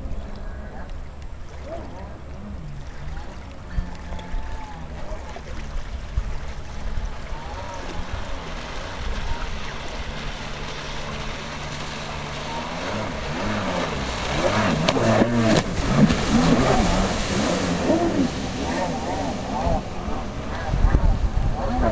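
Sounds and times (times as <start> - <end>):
jet ski engine revving: 0.0 - 21.9.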